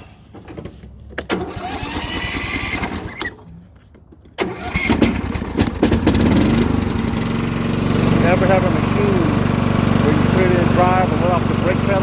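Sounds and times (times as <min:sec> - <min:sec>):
lawn mower engine running: 0:00.3 - 0:12.0
electric starter cranking engine: 0:01.2 - 0:03.4, 0:04.4 - 0:12.0.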